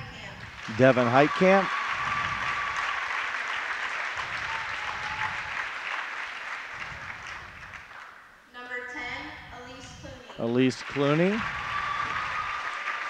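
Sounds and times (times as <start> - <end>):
crowd applauding: 0.0 - 8.3, 10.4 - 13.0.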